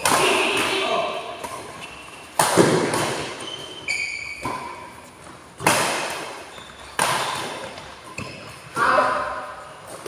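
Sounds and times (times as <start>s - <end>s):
rackets hitting shuttlecock: 0.0s - 9.0s.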